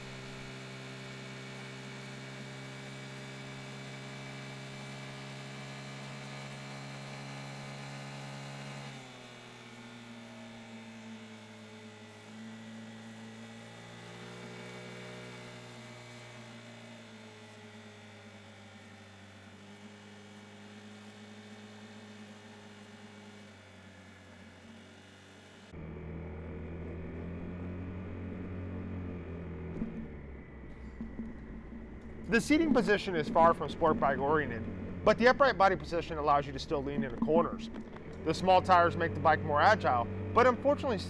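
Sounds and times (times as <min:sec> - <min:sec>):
scooter engine droning: 0:00.0 - 0:41.0.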